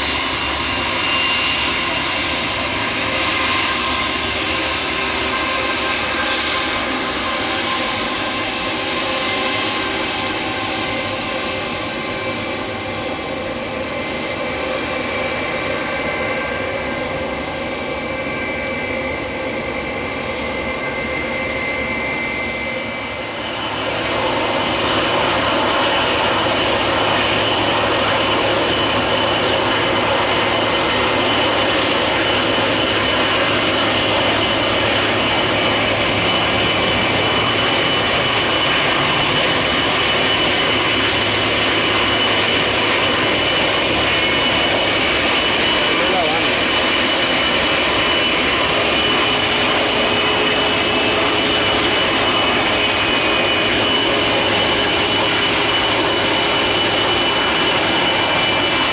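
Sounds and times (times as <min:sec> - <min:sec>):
jet engines whining: 0:00.0 - 0:58.9.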